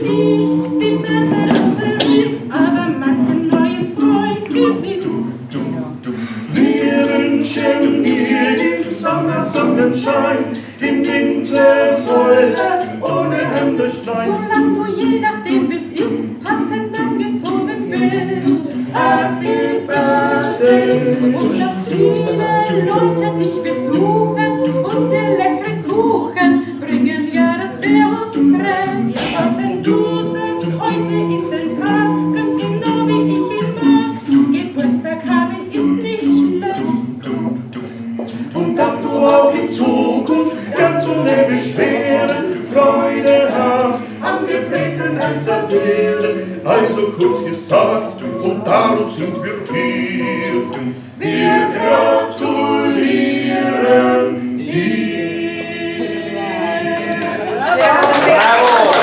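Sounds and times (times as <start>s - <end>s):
group singing a cappella: 0.0s - 59.0s.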